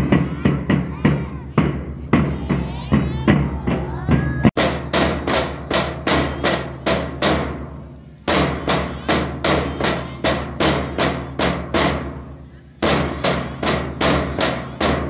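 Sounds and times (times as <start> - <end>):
marching bass drums beating: 0.0 - 15.0.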